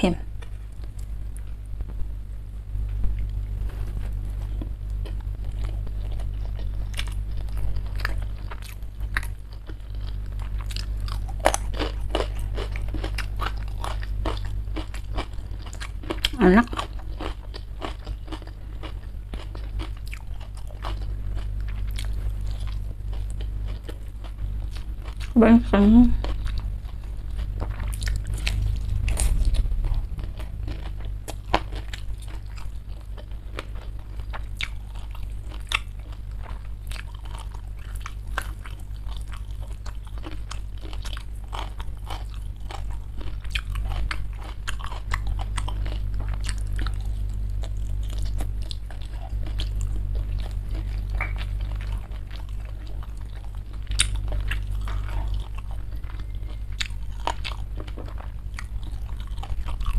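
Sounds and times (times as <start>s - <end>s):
steady low hum: 0.0s - 59.9s
crunchy chewing of fried chicken: 3.0s - 59.9s.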